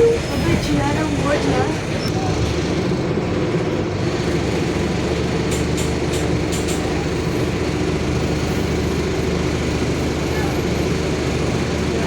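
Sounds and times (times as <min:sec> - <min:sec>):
bus diesel engine droning: 0:00.0 - 0:12.0.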